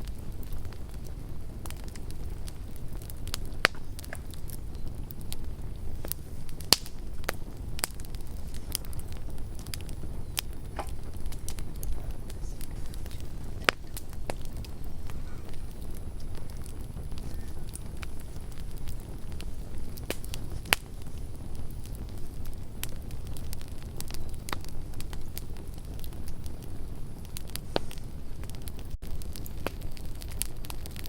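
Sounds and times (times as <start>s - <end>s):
campfire crackling: 0.0s - 31.0s
low steady rumble: 0.0s - 31.0s.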